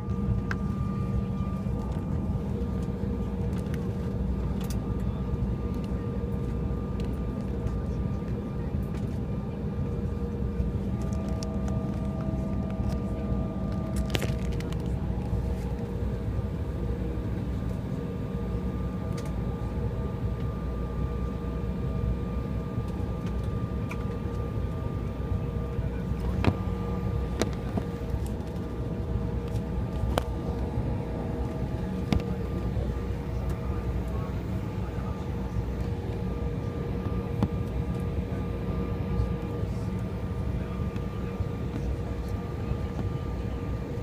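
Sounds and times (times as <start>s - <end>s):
jet cabin engine rumble: 0.0s - 44.0s.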